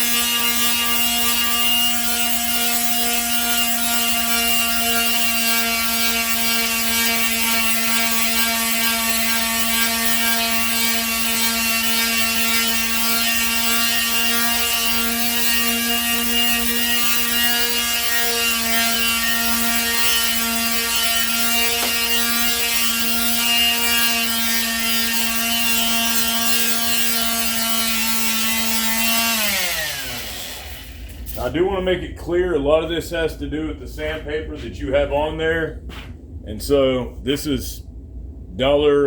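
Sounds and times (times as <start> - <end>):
angle grinder whining: 0.0 - 31.5
grinder winding down: 0.0 - 31.5.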